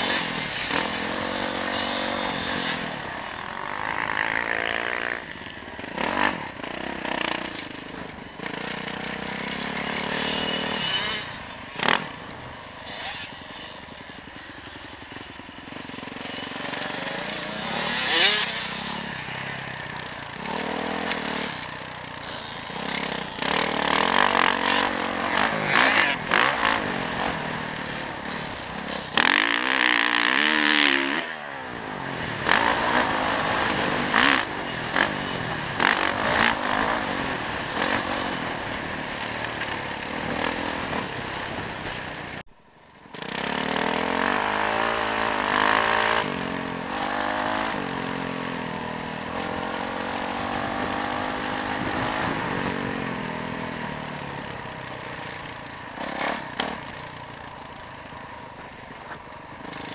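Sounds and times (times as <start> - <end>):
dirt bike engine revving: 0.0 - 42.4, 43.0 - 59.9.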